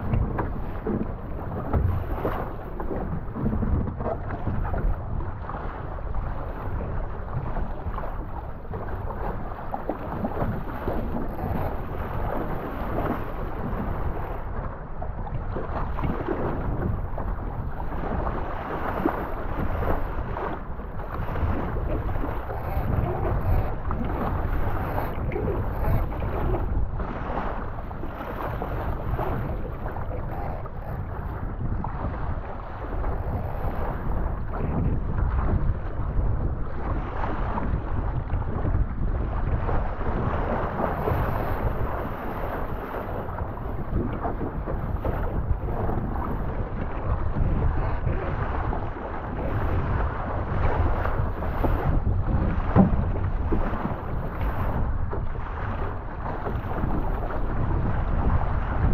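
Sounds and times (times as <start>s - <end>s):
wind buffeting microphone: 0.0s - 58.9s.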